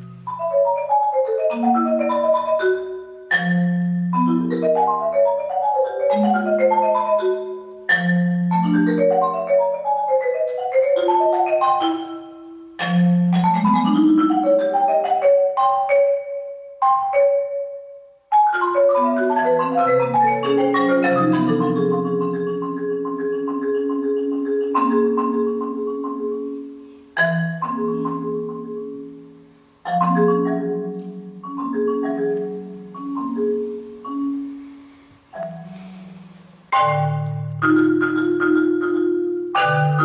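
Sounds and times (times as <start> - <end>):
solo marimba chords: 0.0 - 40.0.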